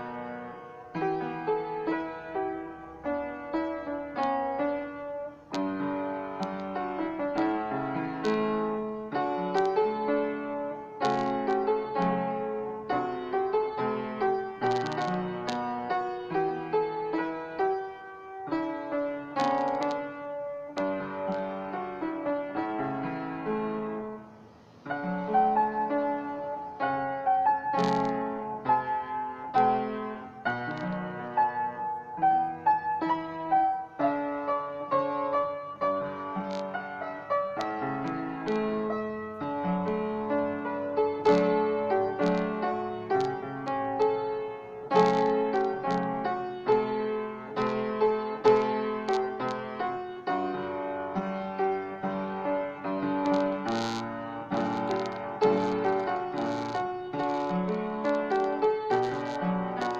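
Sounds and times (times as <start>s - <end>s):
solo piano melody: 0.0s - 59.9s.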